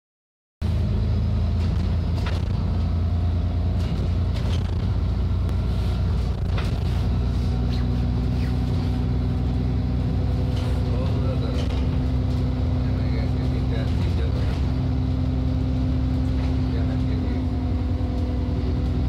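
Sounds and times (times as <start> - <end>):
bus engine rumble: 0.6 - 19.0.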